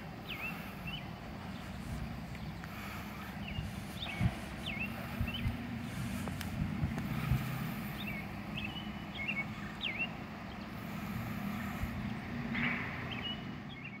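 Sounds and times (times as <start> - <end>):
steady low rumble: 0.0 - 14.0
small bird chirping: 0.2 - 6.3, 7.1 - 11.7, 13.1 - 14.0.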